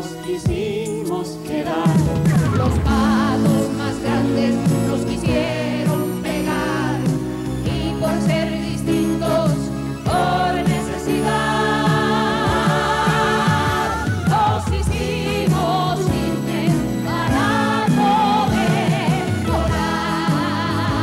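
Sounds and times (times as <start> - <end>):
voices singing in harmony: 0.0 - 21.0
band accompaniment: 0.5 - 21.0.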